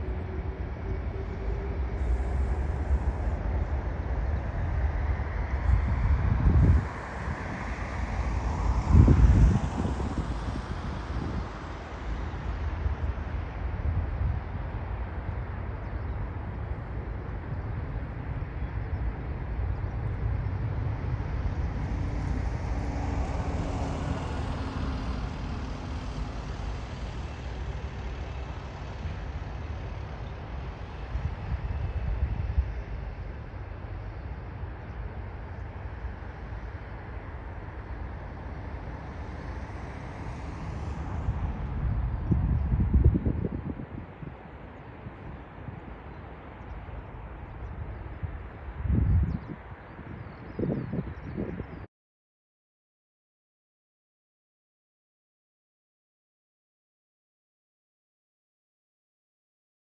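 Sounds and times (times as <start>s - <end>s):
jet airliner passing: 0.0s - 50.2s
wind buffeting microphone: 0.0s - 51.9s.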